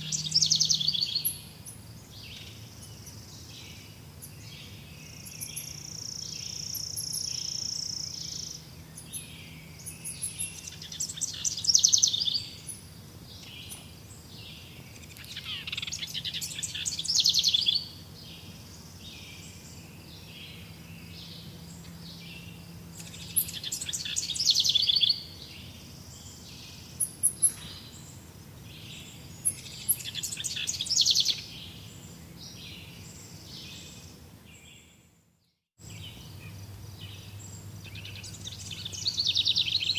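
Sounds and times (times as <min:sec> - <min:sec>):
songbird singing trilled phrases: 0:00.0 - 0:35.0, 0:35.8 - 0:39.9.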